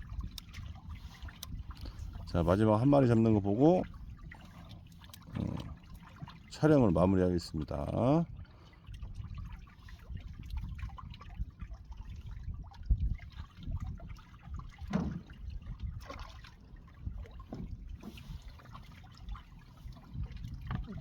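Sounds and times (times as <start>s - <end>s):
sea water lapping: 0.0s - 21.0s
small knocks and splashes: 0.0s - 21.0s.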